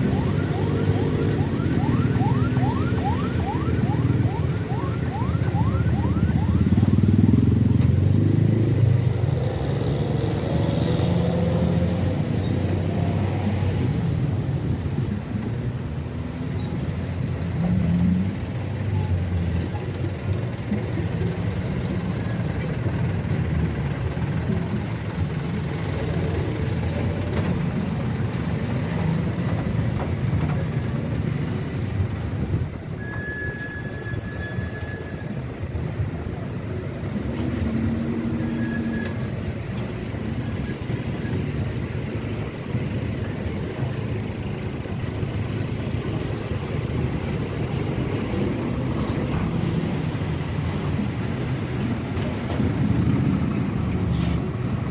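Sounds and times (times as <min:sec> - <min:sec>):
heavy trucks driving past: 0:00.0 - 0:54.9
traffic noise: 0:00.0 - 0:54.9.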